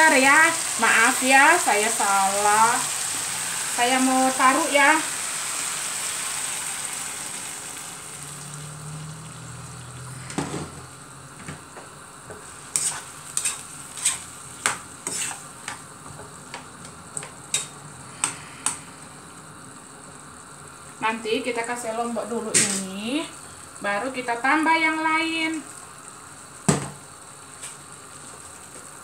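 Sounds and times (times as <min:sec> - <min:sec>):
pot hissing and sizzling: 0:00.0 - 0:29.0.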